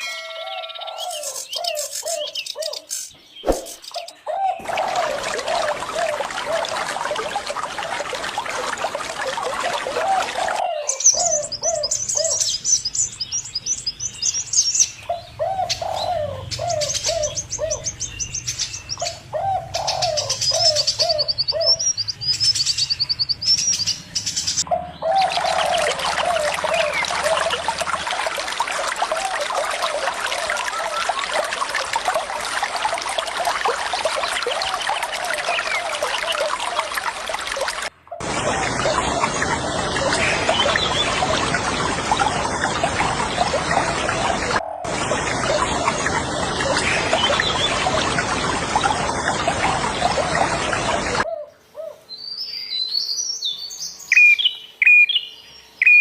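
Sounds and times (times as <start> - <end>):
birds calling: 0.0 - 56.0
running water: 3.3 - 51.2.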